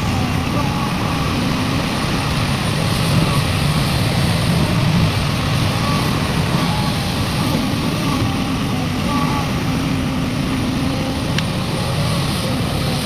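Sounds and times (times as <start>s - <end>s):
heavy diesel engines rumbling: 0.0s - 13.0s.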